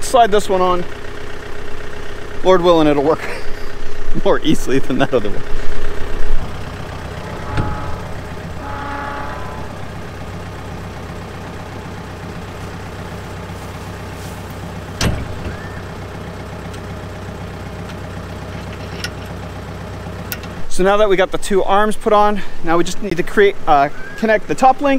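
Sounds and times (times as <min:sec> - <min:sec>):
tractor diesel engine idling: 0:00.0 - 0:24.9.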